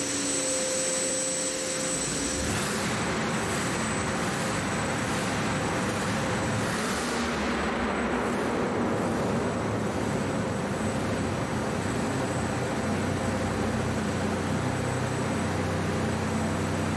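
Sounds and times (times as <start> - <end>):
truck engine running: 0.0 - 16.9.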